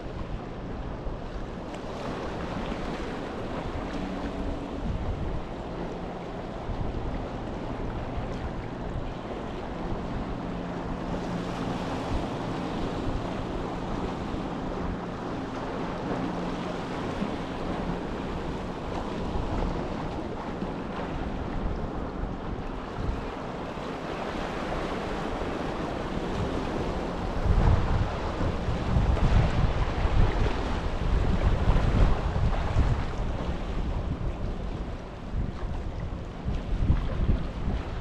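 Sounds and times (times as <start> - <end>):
sea waves lapping: 0.0 - 38.0
wind on microphone: 0.0 - 38.0.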